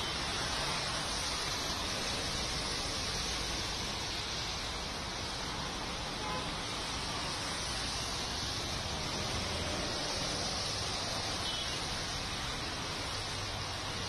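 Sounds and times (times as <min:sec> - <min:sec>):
street ambience hiss and rumble: 0:00.0 - 0:14.0.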